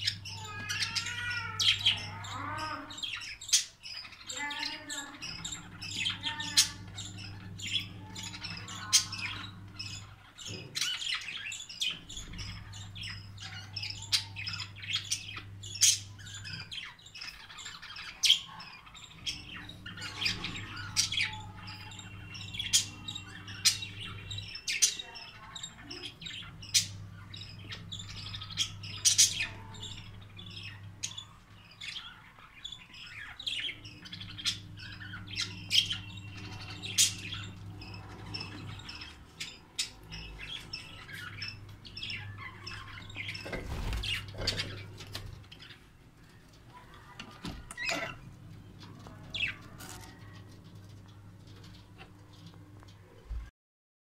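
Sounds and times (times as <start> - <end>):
budgerigars chirping and squawking: 0.0 - 53.4.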